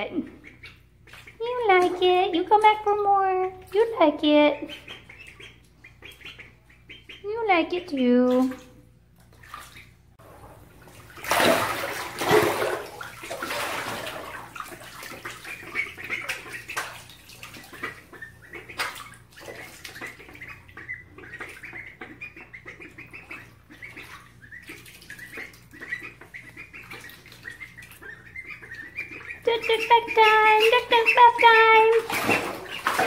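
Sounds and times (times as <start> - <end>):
ducklings peeping: 0.0 - 33.0
ducklings splashing in water: 0.0 - 33.0.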